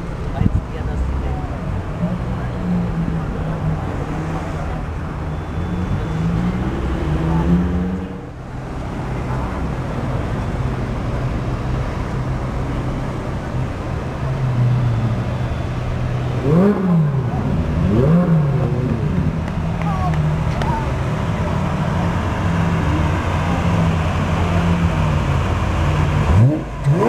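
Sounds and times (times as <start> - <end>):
car engines idling and revving: 0.0 - 27.0.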